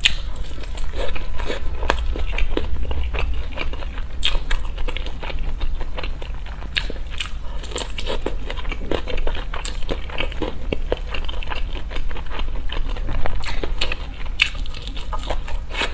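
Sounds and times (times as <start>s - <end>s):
crunchy chewing of food: 0.0s - 15.9s.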